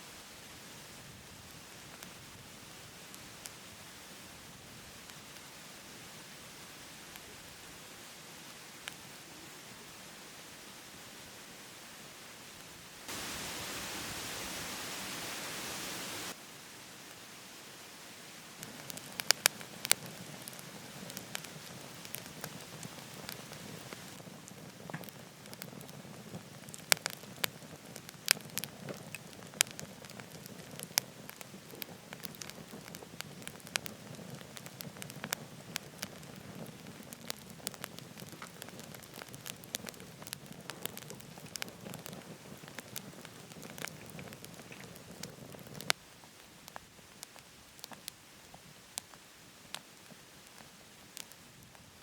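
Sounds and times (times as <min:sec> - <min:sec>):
fire hiss: 0:00.0 - 0:52.0
firewood crackling: 0:00.2 - 0:09.2, 0:12.5 - 0:17.3, 0:18.1 - 0:52.0.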